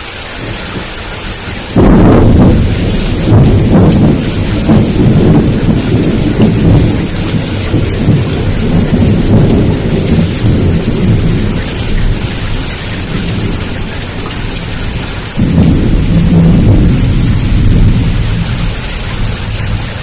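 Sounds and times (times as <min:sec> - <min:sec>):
heavy rain hissing: 0:00.0 - 0:20.0
rolling thunder rumble: 0:00.0 - 0:20.0.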